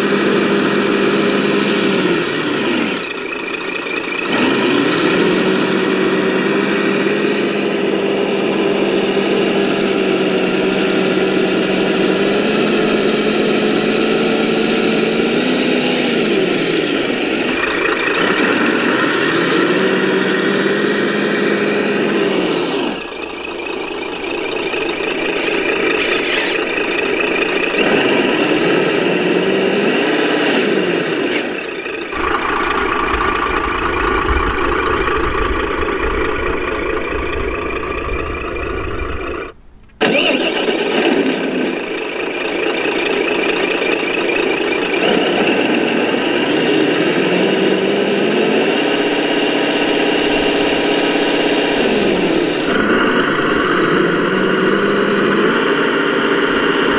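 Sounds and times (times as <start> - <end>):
toy truck motor humming: 0.0 - 56.9.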